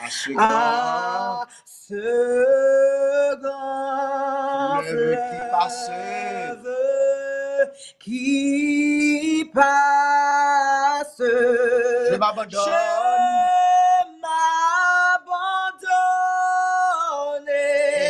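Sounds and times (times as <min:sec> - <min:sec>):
man and woman singing a hymn: 0:00.0 - 0:18.0.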